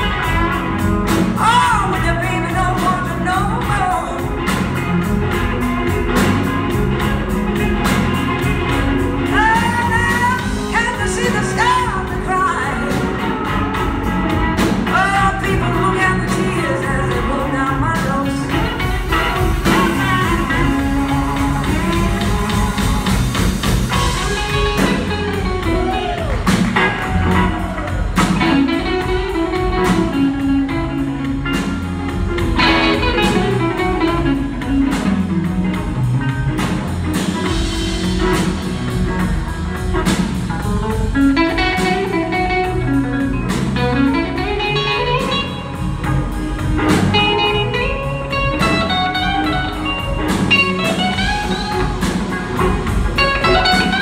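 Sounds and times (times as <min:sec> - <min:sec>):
drums: 0:00.0 - 0:54.0
electric guitar lead: 0:00.0 - 0:54.0
upright bass: 0:00.0 - 0:54.0.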